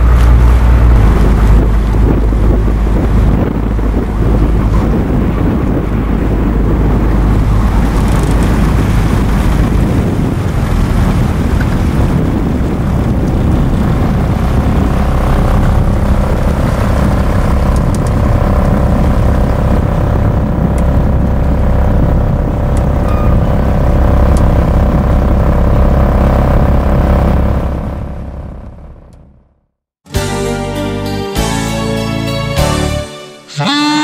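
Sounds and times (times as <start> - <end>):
wind on microphone: 0.0 - 28.6
motorboat engine rumbling: 0.0 - 34.0.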